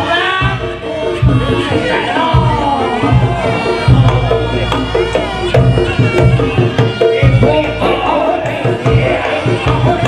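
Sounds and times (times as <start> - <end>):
drums beating: 0.0 - 10.0
held struck tones: 1.0 - 9.2.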